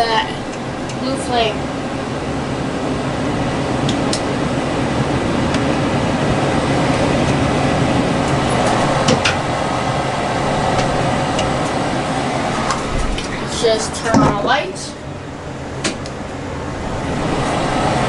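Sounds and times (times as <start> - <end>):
gas furnace flame and fan rumble: 0.0 - 18.0.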